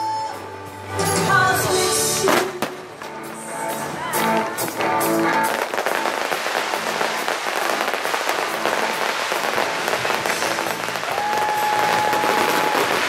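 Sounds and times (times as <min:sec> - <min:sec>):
live band music: 0:00.0 - 0:12.8
fireworks crackling: 0:02.0 - 0:13.0.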